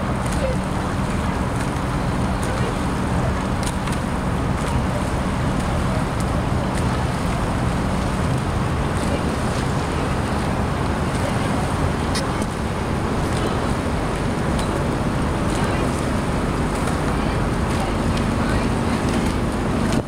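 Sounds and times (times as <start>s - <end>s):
motorboat engine running: 0.0s - 20.0s
water rushing past hull: 0.0s - 20.0s
wind noise on microphone: 0.0s - 20.0s.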